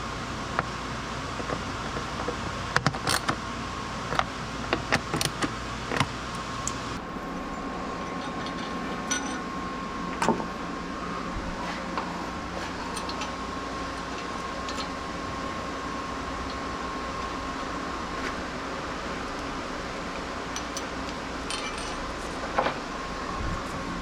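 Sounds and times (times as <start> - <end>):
mechanical hum with high tone: 0.0 - 24.0.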